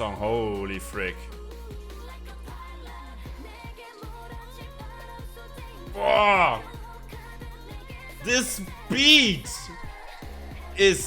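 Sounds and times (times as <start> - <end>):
pop dance track with female vocals: 0.0 - 11.0.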